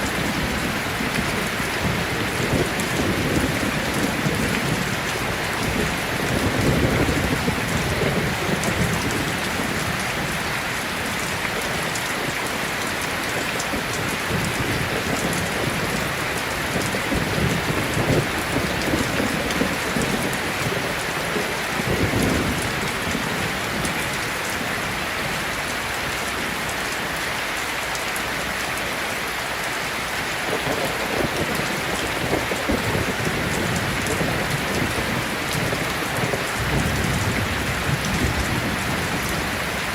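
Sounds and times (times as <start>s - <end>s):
low rolls of thunder: 0.0s - 12.4s, 13.7s - 24.6s, 30.5s - 39.9s
heavy rain falling: 0.0s - 39.9s.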